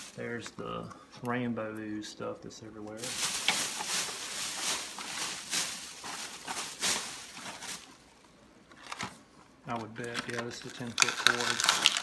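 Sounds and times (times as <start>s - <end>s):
items rustling and scraping: 0.0s - 1.2s, 2.9s - 12.0s.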